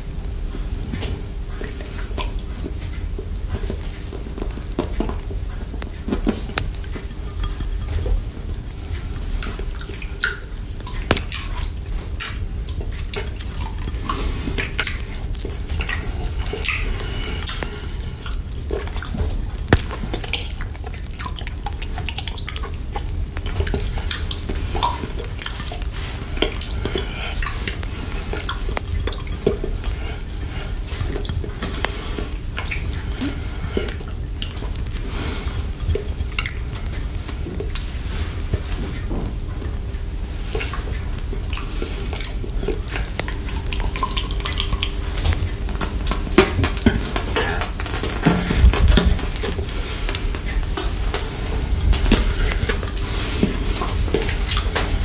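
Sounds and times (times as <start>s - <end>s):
wet licking and sucking mouth sounds: 0.7s - 55.0s.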